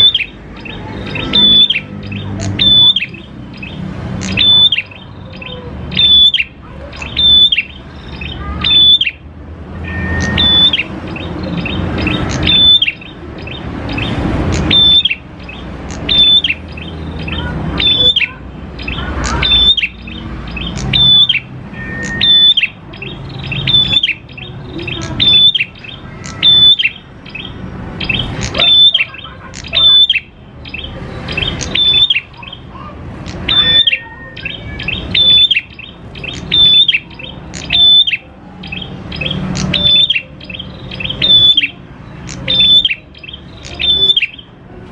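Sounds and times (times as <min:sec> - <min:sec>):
songbird calling: 0:00.0 - 0:44.6.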